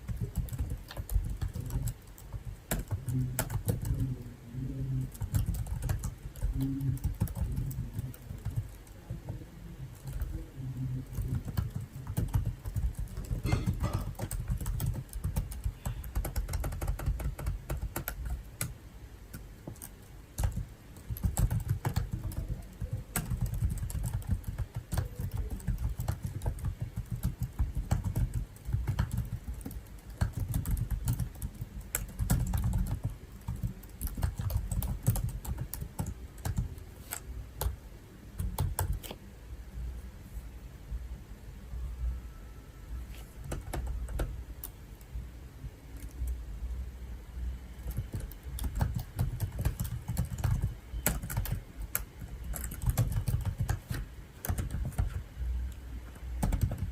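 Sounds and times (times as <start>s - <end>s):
computer keyboard typing: 0.0s - 37.8s, 38.4s - 39.2s, 43.4s - 45.0s, 47.8s - 56.9s.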